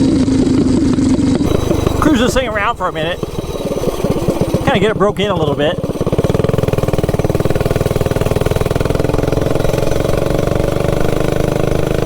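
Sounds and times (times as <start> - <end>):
minibike engine running: 0.0 - 12.0.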